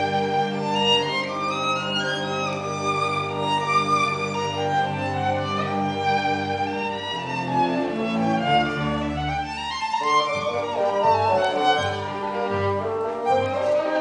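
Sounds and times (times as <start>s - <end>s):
violin melody: 0.0s - 14.0s.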